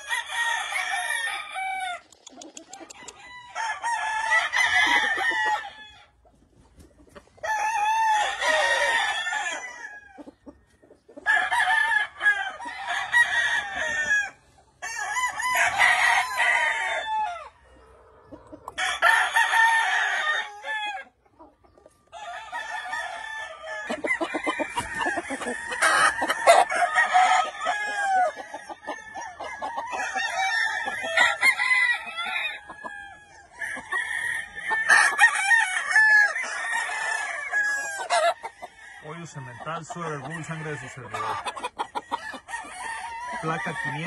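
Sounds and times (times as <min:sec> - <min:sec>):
roosters crowing: 0:00.0 - 0:06.2, 0:07.1 - 0:21.2, 0:21.9 - 0:44.0.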